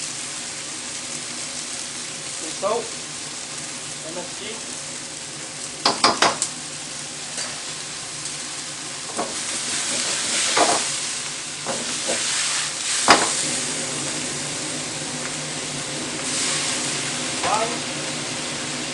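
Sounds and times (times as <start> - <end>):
noodles sizzling in a wok: 0.0 - 18.9.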